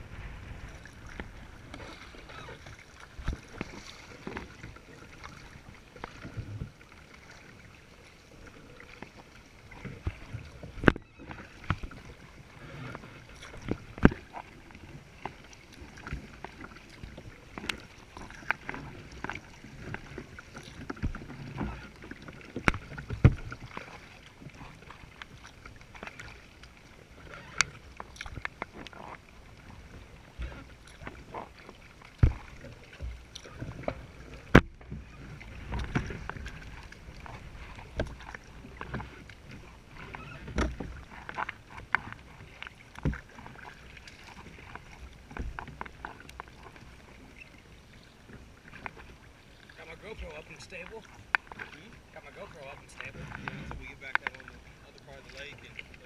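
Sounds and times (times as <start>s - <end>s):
water splashing along kayak hull: 0.0s - 56.0s.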